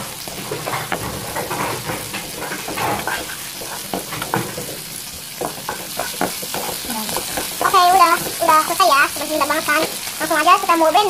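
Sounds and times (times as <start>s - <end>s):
spatula stirring in a pan: 0.0s - 11.0s
vegetables sizzling in hot oil: 0.0s - 11.0s.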